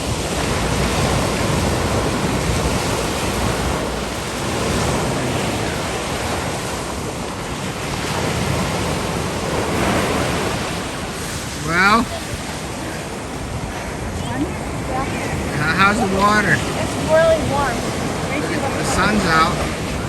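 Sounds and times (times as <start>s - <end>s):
ocean surf washing onto beach: 0.0s - 20.0s
wind rumbling on microphone: 0.0s - 20.0s.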